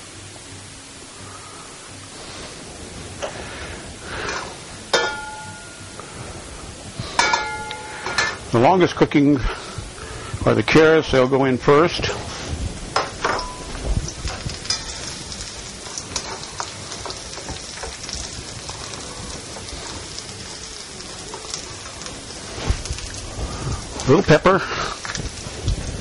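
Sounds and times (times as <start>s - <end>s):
carrots sizzling in hot oil: 0.0s - 26.0s.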